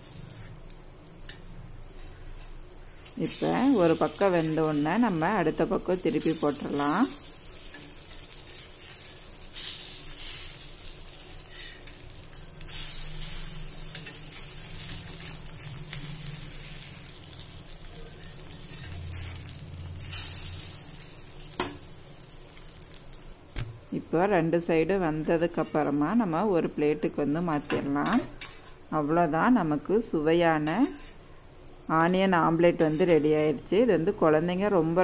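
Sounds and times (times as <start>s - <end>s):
omelettes sizzling in oil: 0.0s - 35.0s.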